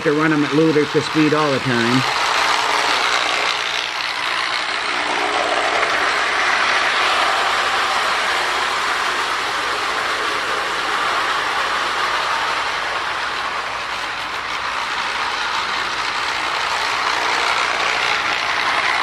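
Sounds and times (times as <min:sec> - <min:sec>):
toy train motor whirring: 0:00.0 - 0:19.0
wheels rattling on rails: 0:00.0 - 0:19.0.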